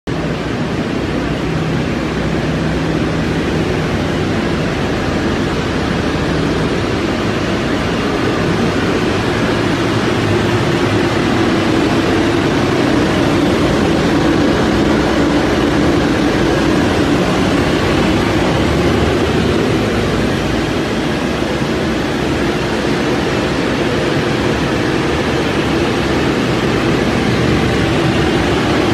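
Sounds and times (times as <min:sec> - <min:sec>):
boiler burner roaring: 0:00.1 - 0:28.9
low hum: 0:00.1 - 0:28.9.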